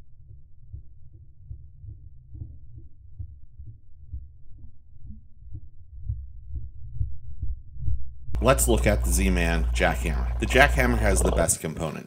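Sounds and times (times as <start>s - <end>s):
deep underwater throbbing: 0.0s - 11.6s.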